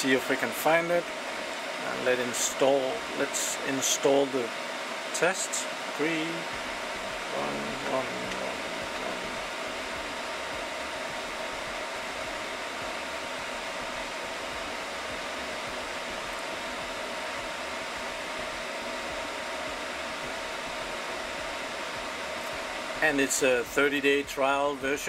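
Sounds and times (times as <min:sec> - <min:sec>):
faint steady tones: 0:00.0 - 0:25.0
server cooling fans whirring: 0:00.0 - 0:25.0.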